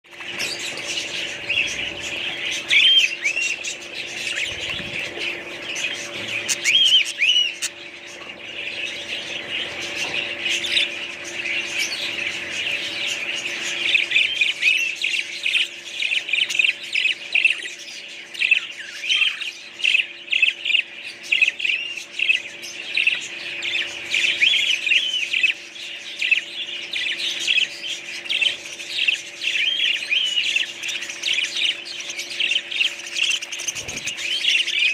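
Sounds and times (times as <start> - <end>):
small birds chirping and squawking: 0.0 - 34.9.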